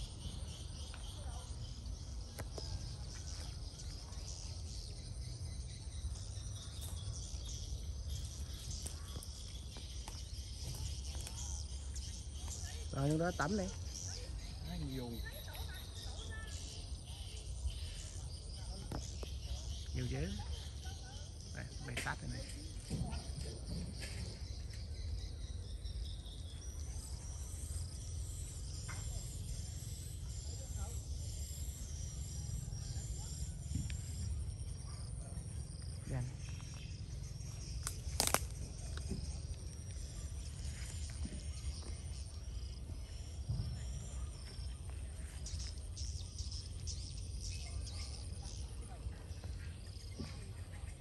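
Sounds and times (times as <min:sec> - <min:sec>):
birds twittering: 0:00.0 - 0:51.0.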